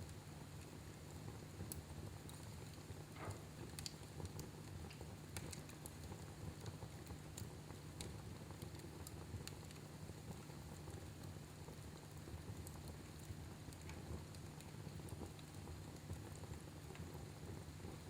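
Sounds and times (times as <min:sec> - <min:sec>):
wood fire crackling quietly: 0:00.0 - 0:18.0.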